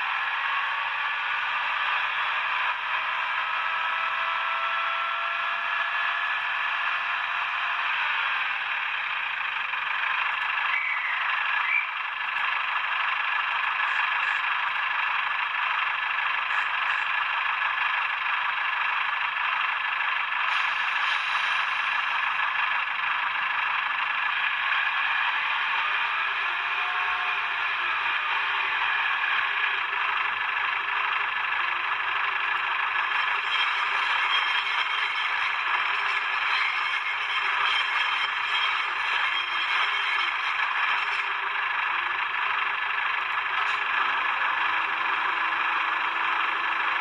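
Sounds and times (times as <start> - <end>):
tinny diesel engine sound: 0.0 - 47.0.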